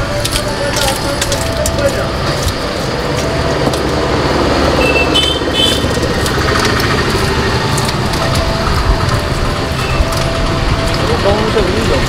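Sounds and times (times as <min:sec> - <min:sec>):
street traffic engines: 0:00.0 - 0:12.0.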